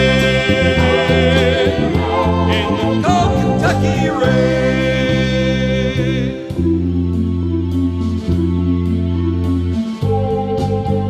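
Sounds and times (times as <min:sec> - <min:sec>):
guitar and bass chords: 0:00.0 - 0:11.0.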